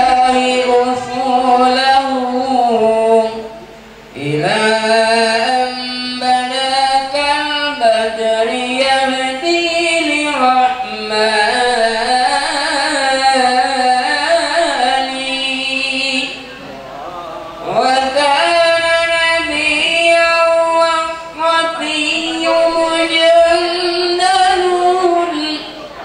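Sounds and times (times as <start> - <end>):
person singing devotional chant: 0.0 - 26.0.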